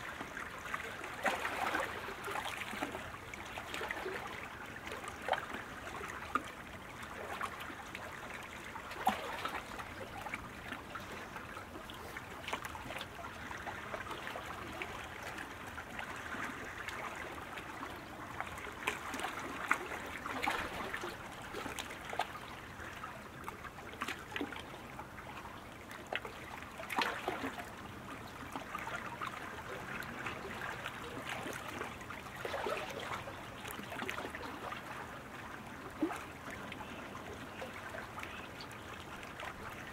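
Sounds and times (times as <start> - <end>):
small water splashes: 0.0 - 39.9
water lapping around kayaks: 0.0 - 39.9.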